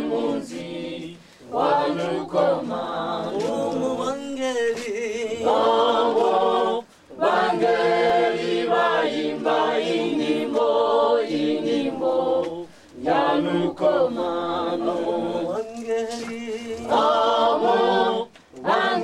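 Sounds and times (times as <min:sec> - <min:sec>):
a cappella choir singing: 0:00.0 - 0:19.0.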